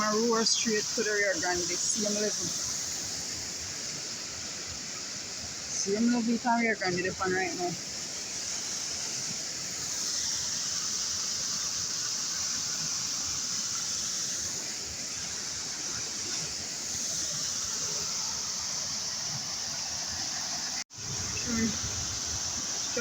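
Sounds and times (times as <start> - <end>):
floodwater rushing in stream: 0.0 - 23.0.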